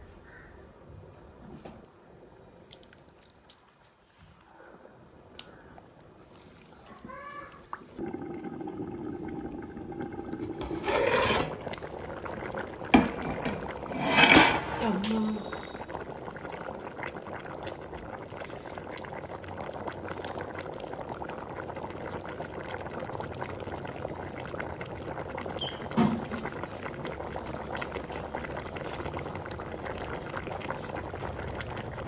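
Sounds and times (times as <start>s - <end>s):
pot boiling and bubbling: 2.0s - 32.0s.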